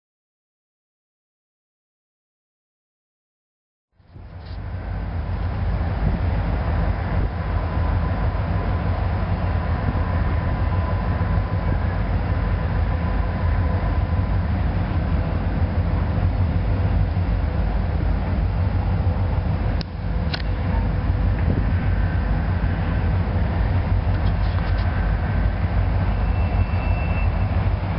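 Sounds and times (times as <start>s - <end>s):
distant diesel locomotive rumble: 4.0s - 27.9s
faint whine: 4.0s - 27.9s.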